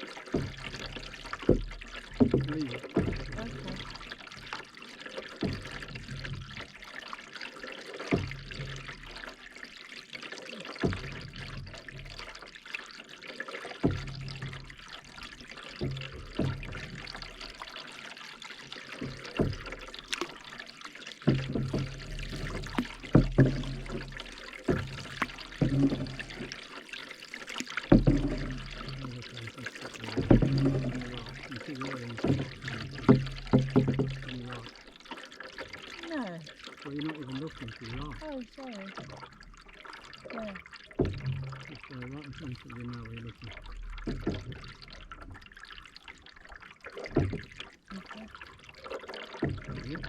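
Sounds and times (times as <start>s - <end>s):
paddle strokes in water: 0.0s - 50.0s
water dripping off paddle: 0.0s - 50.0s.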